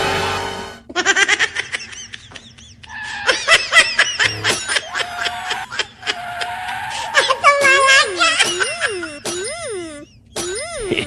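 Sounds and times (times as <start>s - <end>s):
high-pitched cartoon snickering: 0.9s - 11.0s.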